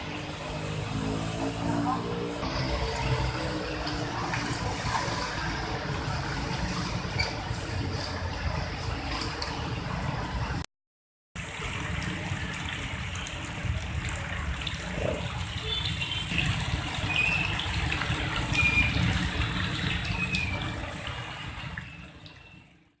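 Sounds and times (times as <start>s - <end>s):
floodwater rushing and splashing: 0.0s - 10.6s, 11.4s - 22.8s.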